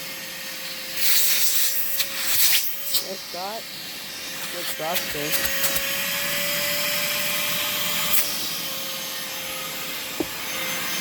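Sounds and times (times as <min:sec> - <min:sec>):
vacuum motor whining: 0:00.0 - 0:11.0.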